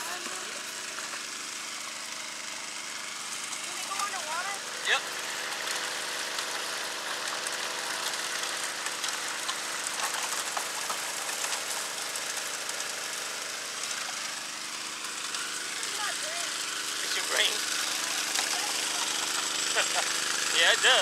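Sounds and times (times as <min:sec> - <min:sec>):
water gushing: 0:00.0 - 0:21.0
water pump engine running: 0:00.0 - 0:21.0.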